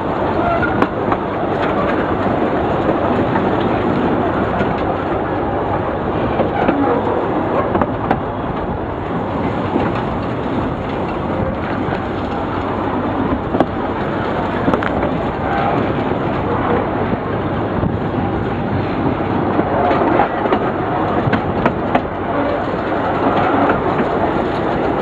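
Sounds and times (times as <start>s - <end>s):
diesel locomotive engines pulling: 0.0s - 25.0s
wheel and rail noise: 0.0s - 25.0s.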